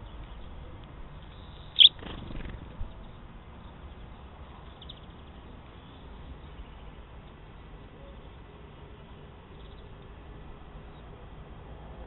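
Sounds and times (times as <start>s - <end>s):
songbird chirps: 0.0s - 11.3s.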